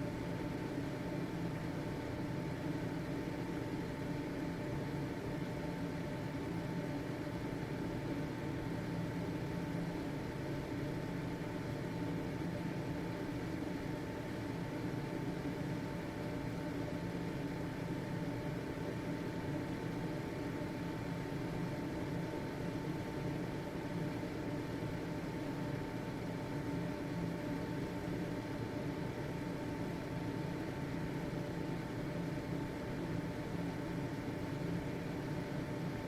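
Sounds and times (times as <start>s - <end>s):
ventilation fan whirring: 0.0s - 36.0s.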